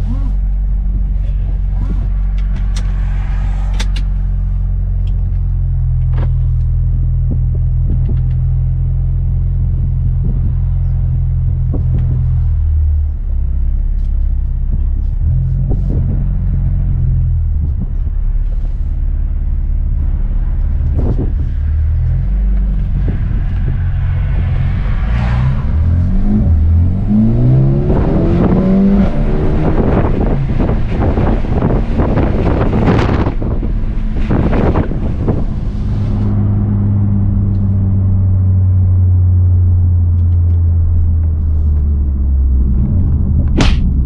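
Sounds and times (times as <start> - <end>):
car engine drone: 0.0 - 44.0
road noise: 0.0 - 44.0.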